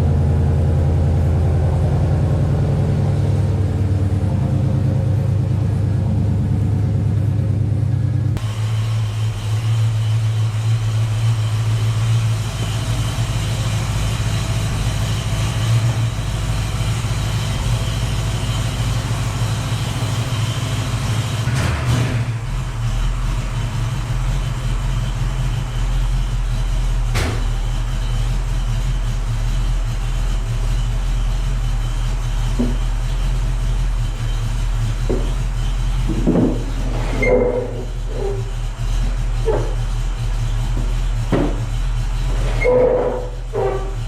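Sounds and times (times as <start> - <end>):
car engine idling: 0.0 - 44.0
engine knocks and clatters: 0.0 - 44.0.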